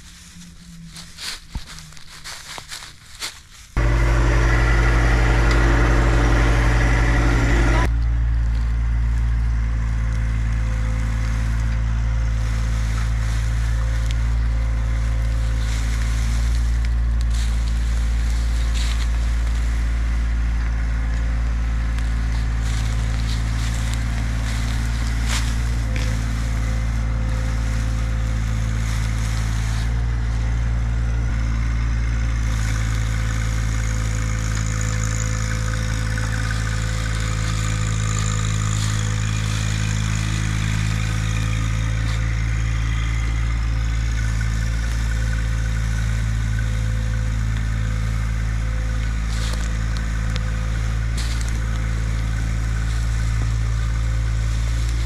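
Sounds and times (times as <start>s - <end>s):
log dragging over ground: 0.0s - 55.0s
tractor engine running: 3.8s - 55.0s.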